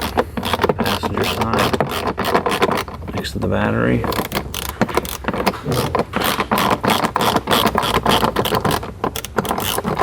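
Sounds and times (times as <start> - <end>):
plastic trim clicking and rattling: 0.0 - 10.0.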